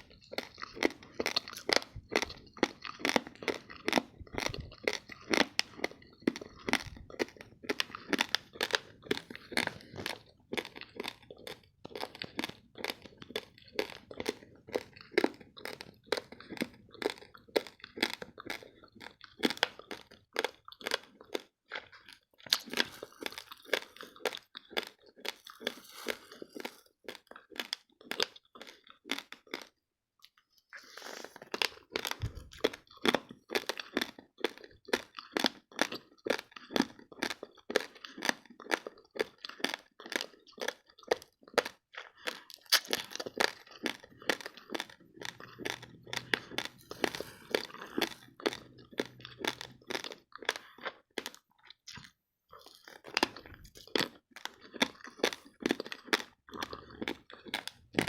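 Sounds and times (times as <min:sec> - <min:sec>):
raw rice being chewed: 0:00.0 - 0:58.0.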